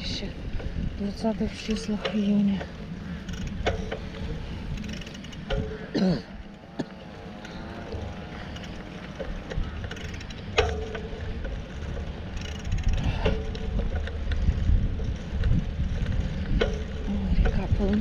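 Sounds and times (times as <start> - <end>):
bicycle rumbling and rattling: 0.0 - 18.0
wind buffeting microphone: 0.0 - 18.0.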